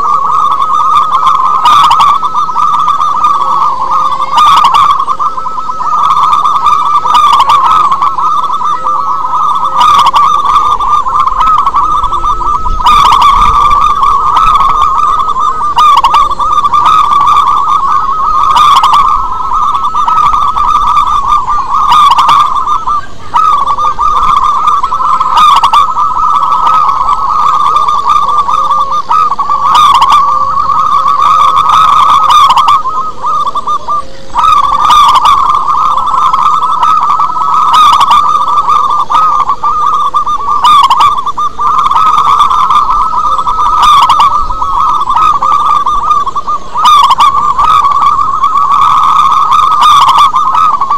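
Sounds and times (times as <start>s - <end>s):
doves cooing: 0.0s - 50.9s
sharp bird calls: 0.0s - 50.9s.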